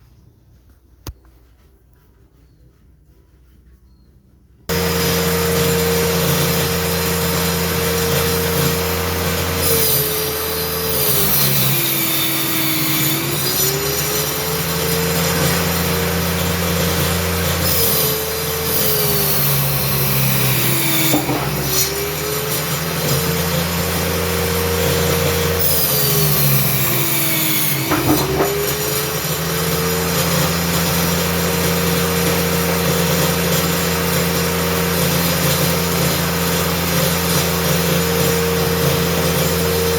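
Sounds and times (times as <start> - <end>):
circular saw motor running: 4.7 - 39.9
saw blade rasping through panels: 4.7 - 39.9.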